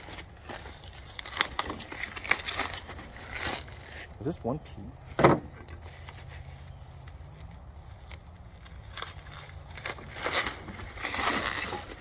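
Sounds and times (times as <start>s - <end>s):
packaging clicks and rustles: 0.0s - 4.3s, 5.6s - 12.0s.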